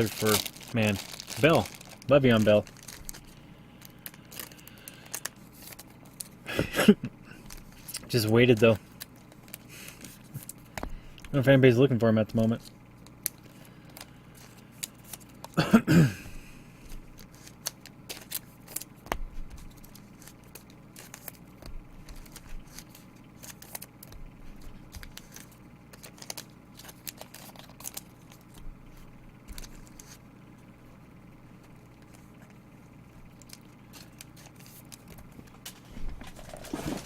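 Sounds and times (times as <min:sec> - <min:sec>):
foil wrappers crinkling and tearing: 0:00.0 - 0:06.4, 0:07.3 - 0:15.6, 0:16.9 - 0:30.2, 0:33.2 - 0:37.0.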